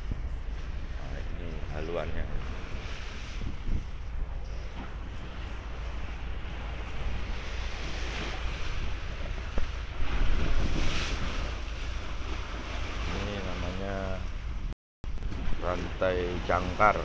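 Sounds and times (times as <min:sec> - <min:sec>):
low rumble: 0:00.0 - 0:17.0
sea water rushing past bow: 0:00.0 - 0:17.0
wind buffeting microphone: 0:00.0 - 0:17.0.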